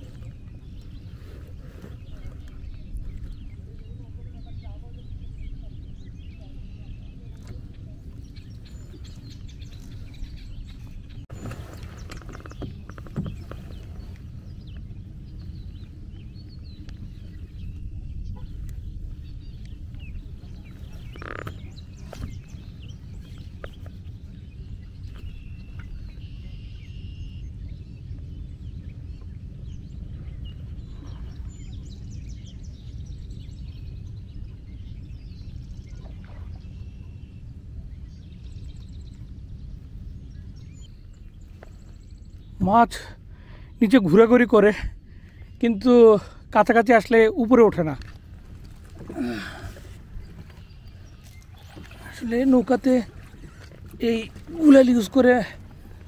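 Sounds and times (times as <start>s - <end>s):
low steady rumble: 0.0s - 43.8s, 47.8s - 56.0s
bird calls: 0.0s - 56.0s.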